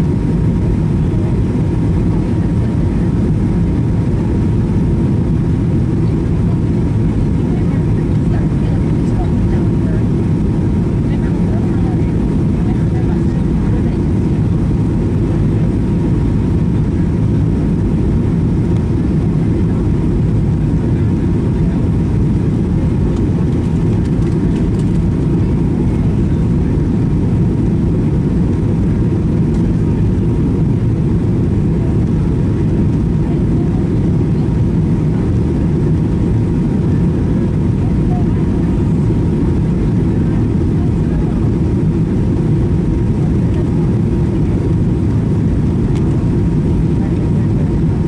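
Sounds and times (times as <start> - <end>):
aircraft cabin rumble: 0.0 - 48.0.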